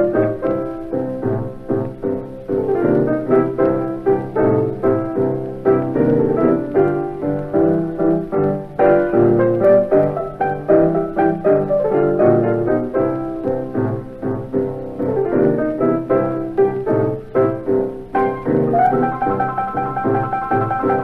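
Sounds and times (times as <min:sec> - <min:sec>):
piano playing quick notes: 0:00.0 - 0:21.0.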